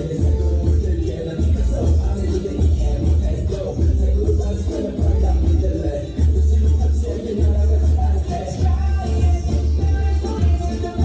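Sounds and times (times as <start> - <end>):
loud dance music with heavy bass: 0.0 - 11.0.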